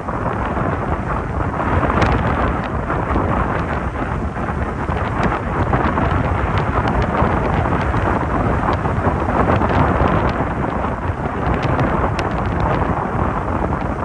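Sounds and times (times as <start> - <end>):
surf breaking on beach: 0.0 - 14.0
wind rumbling on microphone: 0.0 - 14.0.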